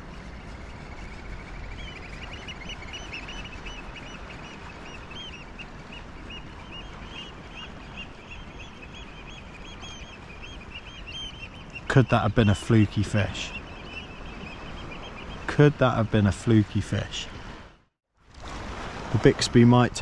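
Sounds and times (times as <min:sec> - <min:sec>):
birds calling: 0:00.0 - 0:17.7.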